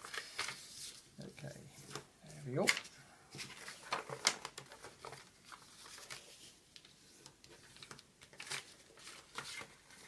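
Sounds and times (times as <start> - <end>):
paper rustling and crinkling: 0.0 - 1.0, 1.8 - 10.0.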